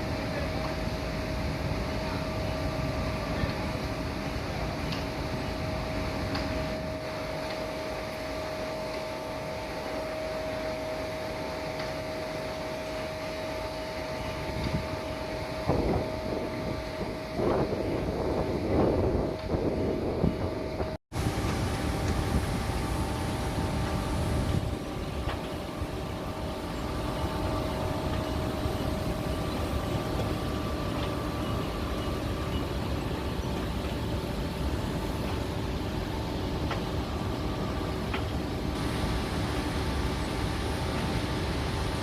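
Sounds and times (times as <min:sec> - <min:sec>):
heavy vehicle engine running: 0:00.0 - 0:42.0.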